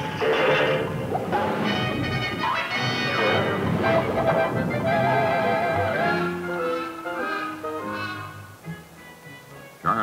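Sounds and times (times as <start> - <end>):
orchestral music: 0.0 - 10.0.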